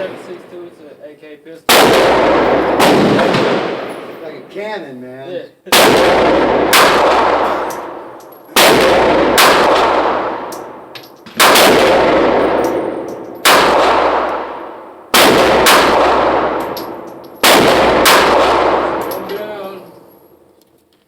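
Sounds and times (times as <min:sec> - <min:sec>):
gunshots: 0:00.0 - 0:01.1, 0:01.7 - 0:04.6, 0:05.7 - 0:20.1.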